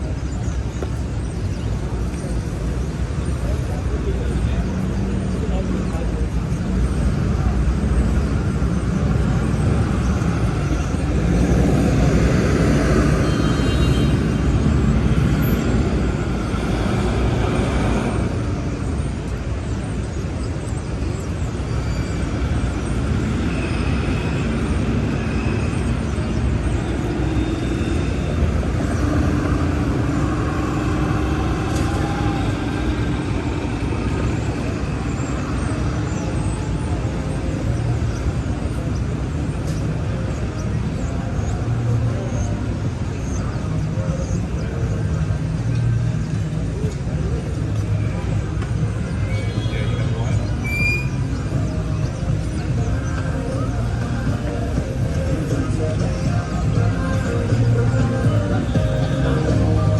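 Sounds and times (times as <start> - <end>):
street traffic rumbling past: 0.0 - 59.9.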